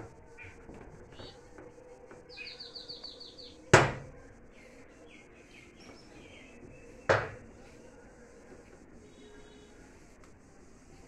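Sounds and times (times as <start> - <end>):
songbird calling: 0.0 - 7.9, 9.0 - 10.1.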